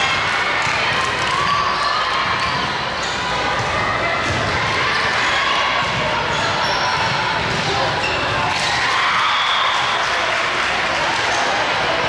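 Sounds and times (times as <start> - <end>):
many voices talking and calling: 0.0 - 12.0.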